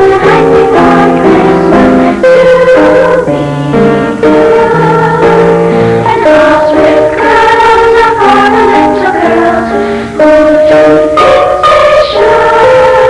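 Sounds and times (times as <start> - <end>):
children's choir singing: 0.0 - 13.0
piano accompaniment: 0.0 - 13.0.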